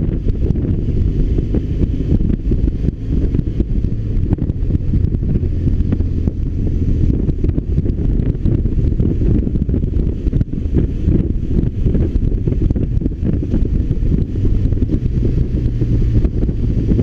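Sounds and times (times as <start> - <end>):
motorcycle engine running: 0.0 - 17.0
wind buffeting on microphone: 0.0 - 17.0.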